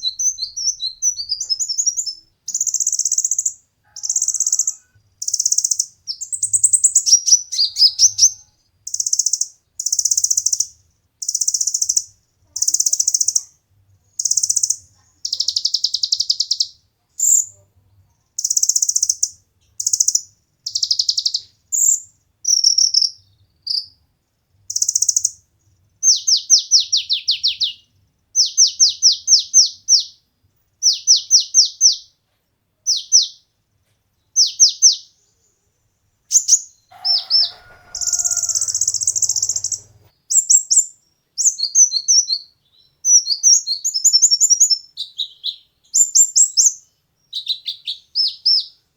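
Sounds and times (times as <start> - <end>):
sunbird singing: 0.0 - 24.0, 24.7 - 25.4, 26.0 - 30.2, 32.9 - 33.5, 34.3 - 35.6, 36.3 - 48.8.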